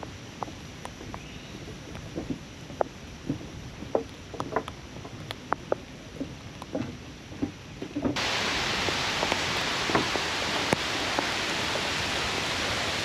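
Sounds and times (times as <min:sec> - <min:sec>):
rain drips and taps: 0:00.0 - 0:13.0
steady hiss of rain: 0:00.0 - 0:13.0.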